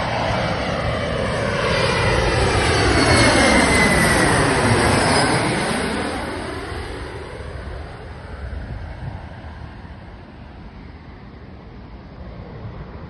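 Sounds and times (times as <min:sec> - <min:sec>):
jet engine whine: 0:00.0 - 0:13.0
jet passing overhead: 0:00.0 - 0:13.0.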